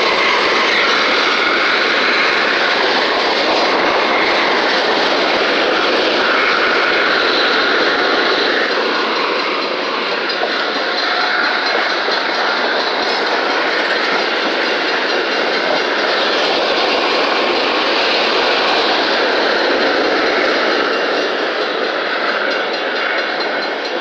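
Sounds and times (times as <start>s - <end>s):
train wheels on rail clacking: 0.0s - 24.0s.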